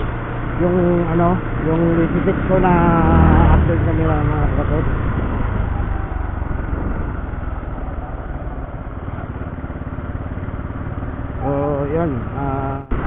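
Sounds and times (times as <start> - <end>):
motorcycle engine and road noise: 0.0 - 13.0.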